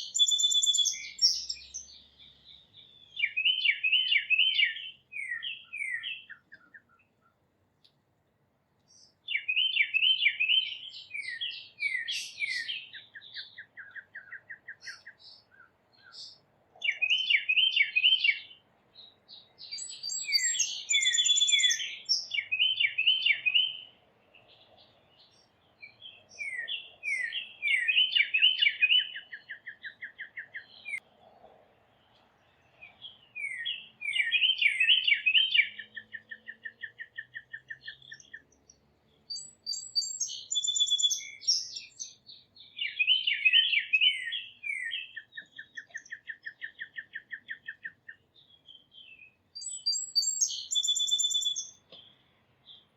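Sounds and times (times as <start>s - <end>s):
songbird whistled song with trill: 0.0s - 7.3s, 8.9s - 24.6s, 25.2s - 31.0s, 32.8s - 52.9s.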